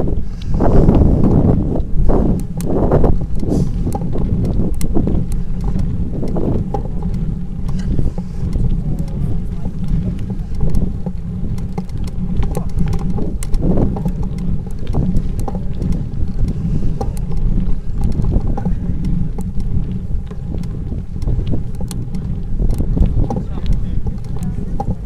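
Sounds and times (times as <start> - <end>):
bicycle clicks and rattles: 0.0 - 25.0
wind buffeting microphone: 0.0 - 25.0.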